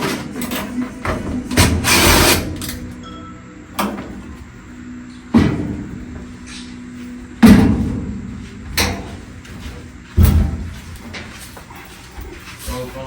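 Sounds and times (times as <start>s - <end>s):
faint steady hum: 0.2s - 13.0s.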